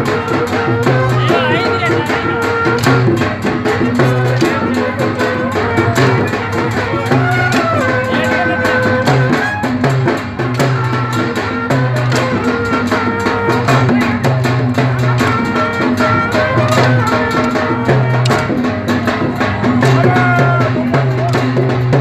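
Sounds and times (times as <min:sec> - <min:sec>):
fast drum beat: 0:00.0 - 0:22.0.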